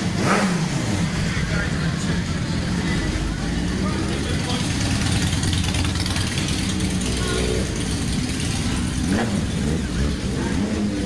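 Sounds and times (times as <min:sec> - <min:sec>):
crowd voices: 0:00.0 - 0:11.0
motorcycle engines idling: 0:00.0 - 0:11.0.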